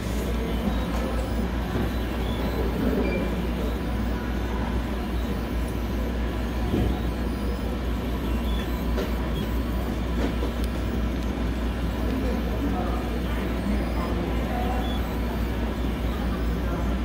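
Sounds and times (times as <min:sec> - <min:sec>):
machine humming and whirring: 0:00.0 - 0:17.0.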